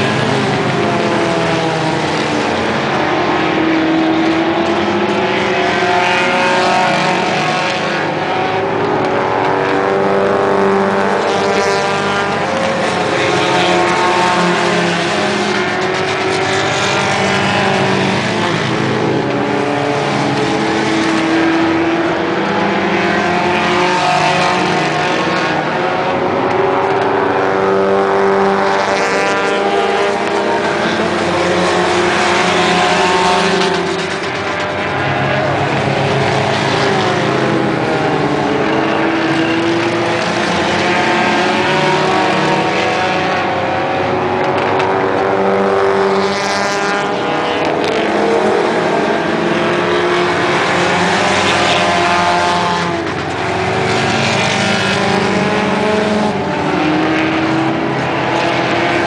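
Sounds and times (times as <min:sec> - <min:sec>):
race car engines at full throttle: 0:00.0 - 0:59.0.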